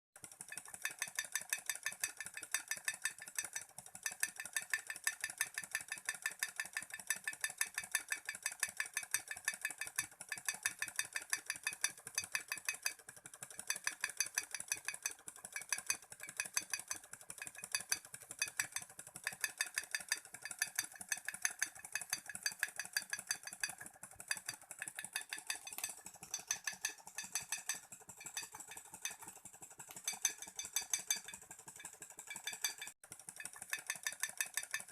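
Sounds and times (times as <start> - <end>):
small engine clicking and rattling: 0.2 - 34.9.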